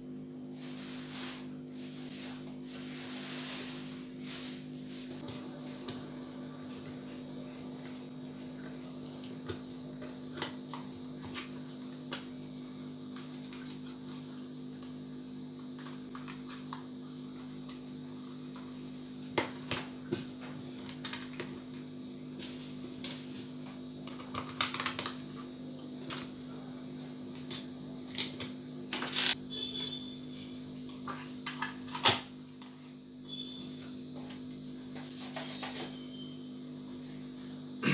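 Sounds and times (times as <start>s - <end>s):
low electrical hum: 0.0s - 37.9s.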